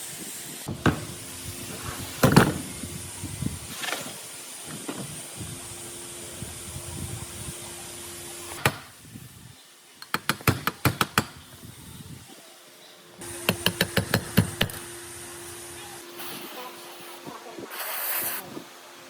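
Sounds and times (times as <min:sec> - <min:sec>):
machine hiss and hum: 0:00.0 - 0:10.1, 0:11.4 - 0:19.0.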